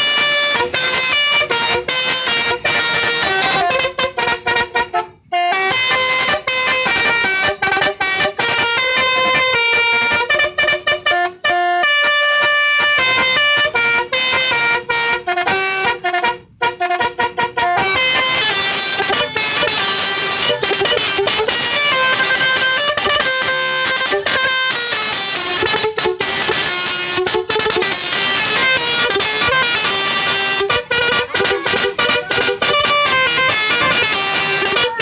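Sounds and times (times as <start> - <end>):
electric musical horn tune: 0.0 - 35.0.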